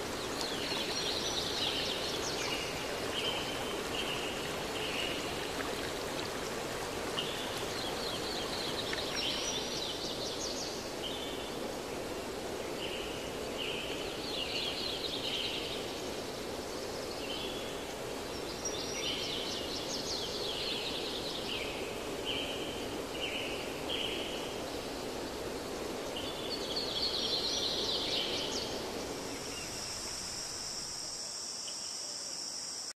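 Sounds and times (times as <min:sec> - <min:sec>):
crickets chirring: 0:00.0 - 0:15.8, 0:16.4 - 0:32.9
flowing water: 0:00.0 - 0:31.2.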